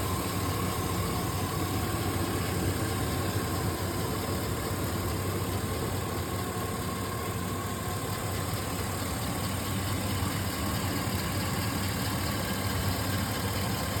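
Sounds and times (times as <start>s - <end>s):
pickup engine running steadily: 0.0s - 14.0s.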